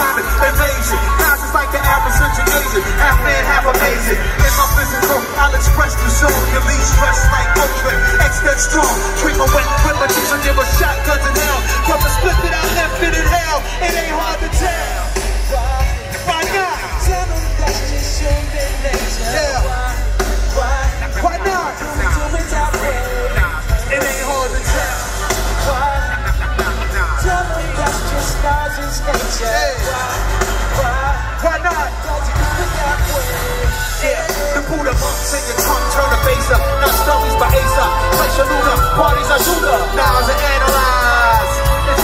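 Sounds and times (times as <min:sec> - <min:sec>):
orchestra over hip-hop beat: 0:00.0 - 0:42.0
person singing: 0:00.0 - 0:42.0.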